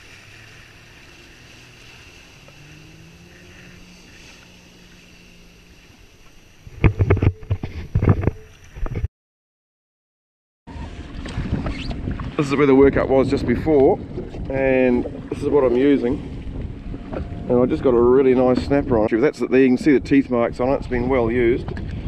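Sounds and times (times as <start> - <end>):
jet ski engine running: 0.0 - 8.2, 10.7 - 22.0.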